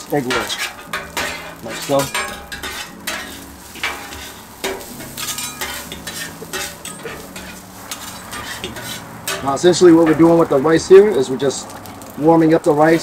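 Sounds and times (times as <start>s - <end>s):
spatula scraping on griddle: 0.0s - 10.6s
oil sizzling: 0.0s - 13.0s.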